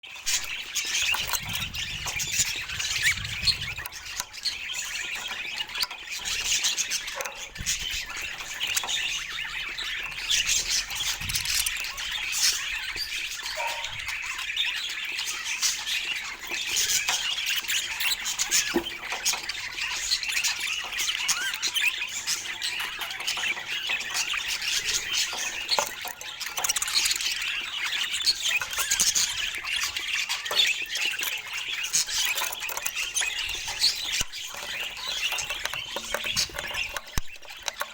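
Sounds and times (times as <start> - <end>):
budgerigars chattering and chirping: 0.1 - 37.9.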